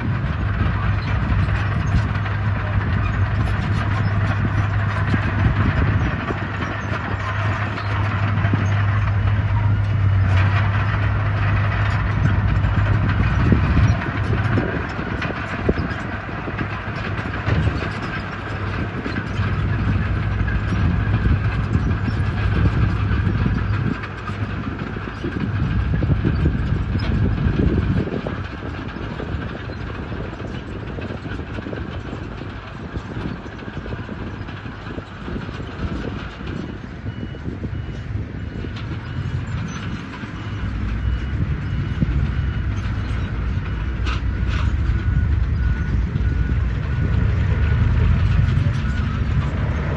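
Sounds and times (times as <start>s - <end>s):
excavator diesel engine rumbling: 0.0s - 49.9s.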